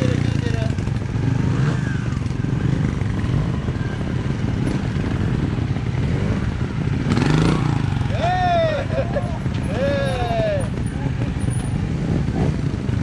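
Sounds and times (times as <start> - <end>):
motorcycle engine revving: 0.0 - 13.0
motorcycle engines idling: 0.0 - 13.0.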